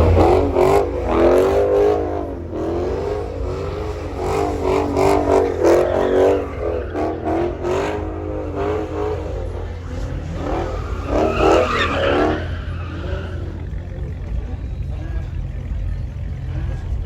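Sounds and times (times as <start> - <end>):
car tires squealing: 0.0 - 17.0
low engine rumble: 0.0 - 17.0.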